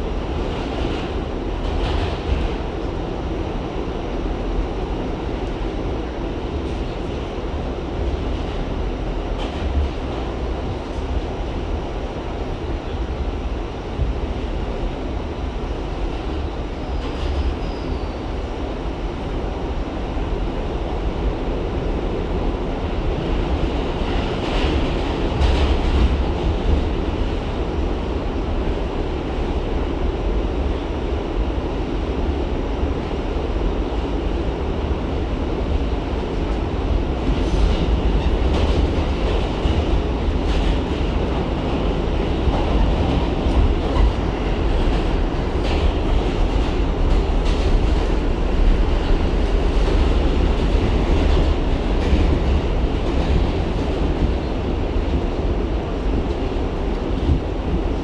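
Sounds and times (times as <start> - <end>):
subway train rumbling on rails: 0.0 - 58.0.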